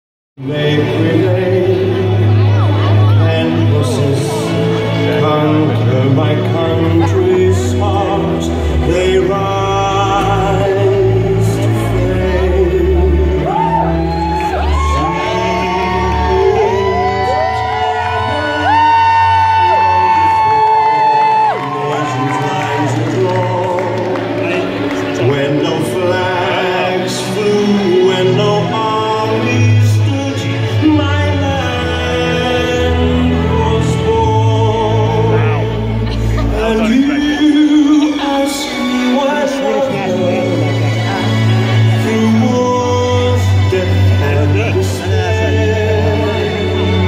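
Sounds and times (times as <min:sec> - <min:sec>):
live band music: 0:00.4 - 0:21.6, 0:22.3 - 0:47.0
person singing: 0:00.4 - 0:47.0.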